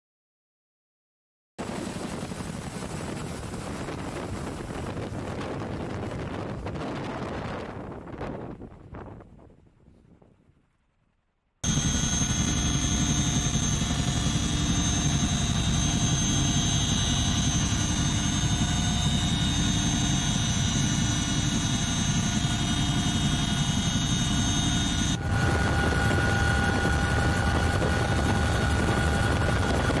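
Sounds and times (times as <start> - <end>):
helicopter cabin drone: 1.6 - 9.2, 11.6 - 30.0.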